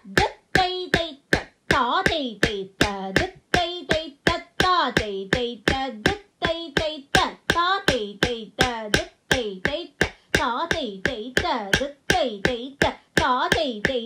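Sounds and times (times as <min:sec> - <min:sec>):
person chanting rhythm syllables: 0:00.0 - 0:14.0
wooden stick striking block: 0:00.0 - 0:14.0.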